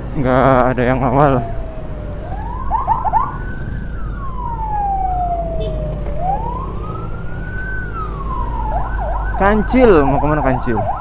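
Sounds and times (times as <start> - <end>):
motorcycle rumble: 0.0 - 11.0
electronic wail siren: 0.9 - 11.0.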